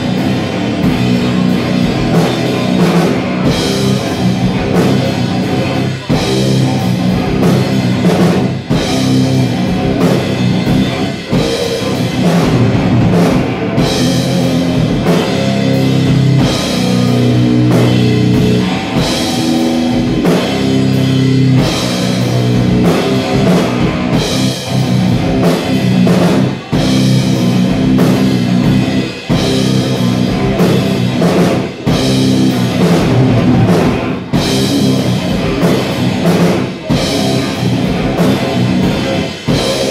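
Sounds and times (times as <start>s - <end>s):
live heavy rock band: 0.0s - 39.9s.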